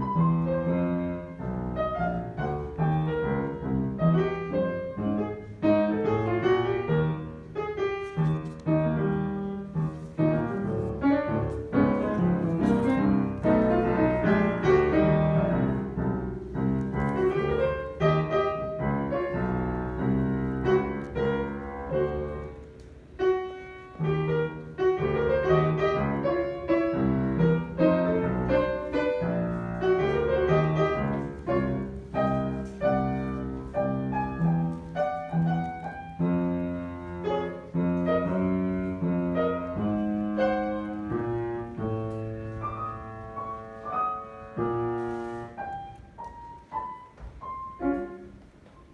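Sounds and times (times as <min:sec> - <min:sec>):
piano playing: 0:00.0 - 0:48.9.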